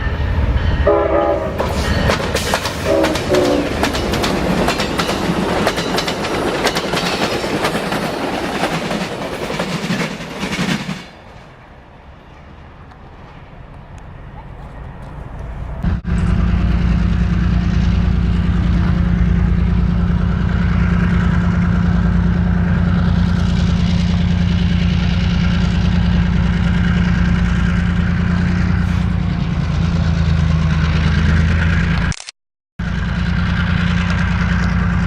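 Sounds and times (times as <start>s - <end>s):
diesel locomotive engine droning: 0.0s - 32.2s, 32.8s - 35.0s.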